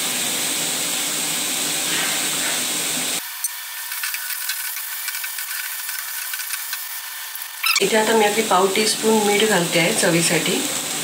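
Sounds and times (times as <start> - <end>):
vegetables sizzling in a pan: 0.2 - 11.0.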